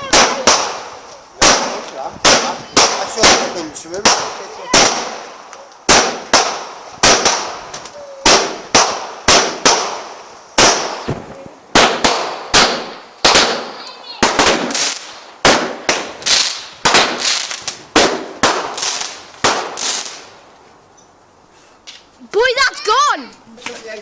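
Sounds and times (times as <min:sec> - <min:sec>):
fireworks bangs: 0:00.0 - 0:20.5.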